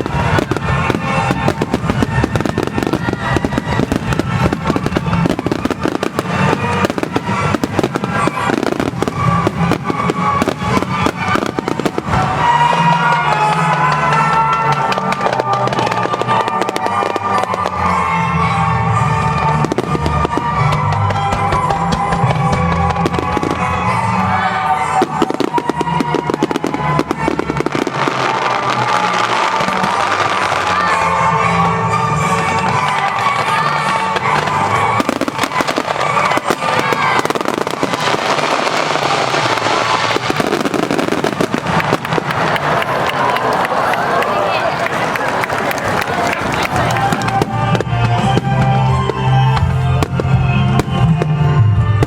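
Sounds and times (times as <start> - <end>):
music over loudspeakers: 0.0 - 42.0, 46.6 - 52.0
fireworks bursting and crackling: 0.0 - 52.0.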